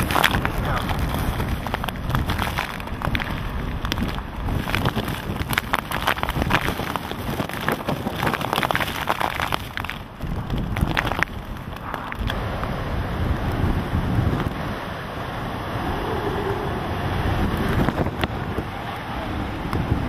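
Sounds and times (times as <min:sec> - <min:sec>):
hurricane wind rushing: 0:00.0 - 0:20.0
rain hits: 0:00.0 - 0:20.0
wind buffeting microphone: 0:00.0 - 0:20.0.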